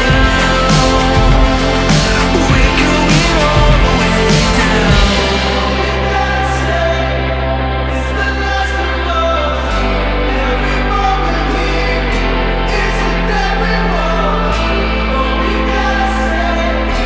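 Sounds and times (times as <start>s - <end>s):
pop-rock song with vocals: 0.0s - 17.0s.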